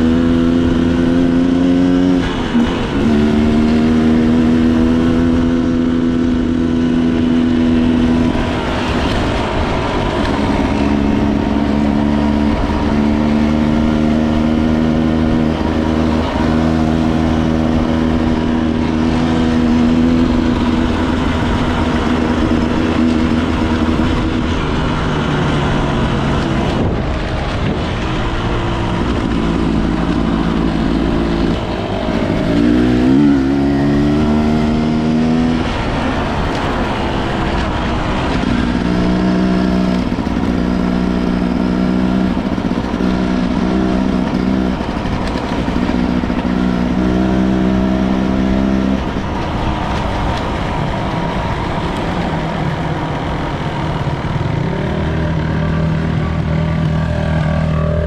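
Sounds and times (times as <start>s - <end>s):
dirt bike engine revving: 0.0s - 58.0s
steady rushing noise: 0.0s - 58.0s.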